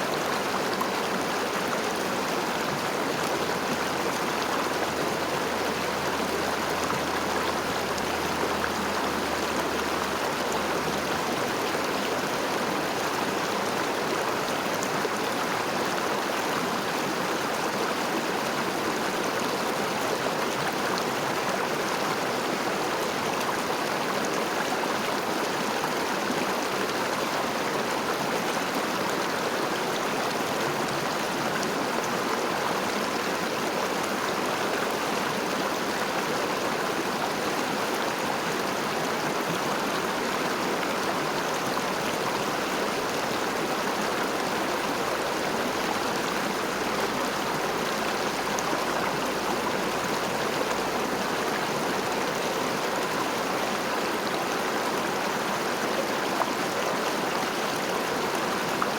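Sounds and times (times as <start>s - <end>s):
river flowing over stones: 0.0s - 58.9s.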